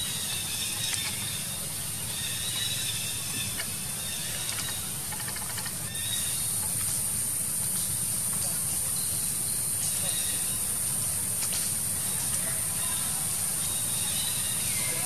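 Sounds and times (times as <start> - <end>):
high-pitched insect chorus droning: 0.0 - 15.0.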